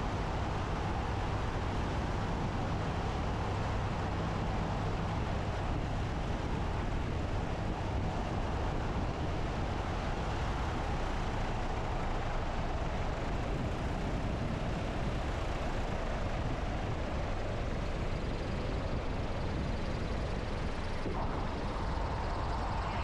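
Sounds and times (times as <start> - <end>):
airplane engine and propeller: 0.0 - 23.0.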